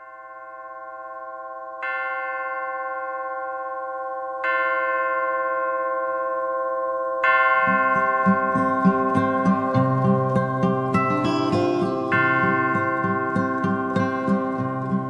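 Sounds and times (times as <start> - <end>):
bell-like chimes: 0.0 - 15.0.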